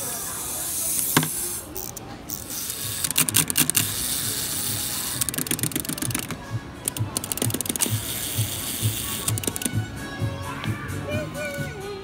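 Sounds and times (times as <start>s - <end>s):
wind-up toy gears clicking: 0.0s - 9.8s.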